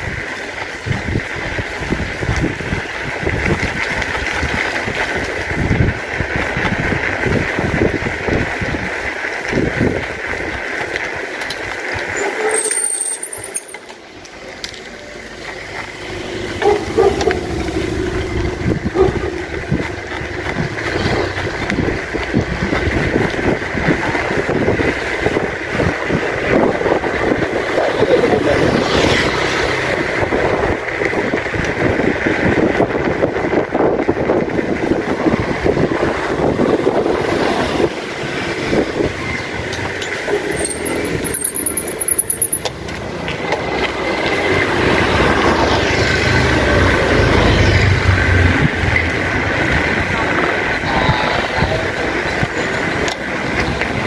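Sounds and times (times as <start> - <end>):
bicycle rattle and road rumble: 0.0 - 54.0.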